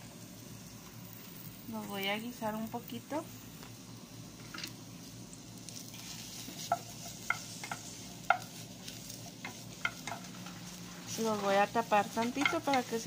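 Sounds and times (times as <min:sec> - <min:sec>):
mushrooms sizzling in oil: 0:00.0 - 0:13.0.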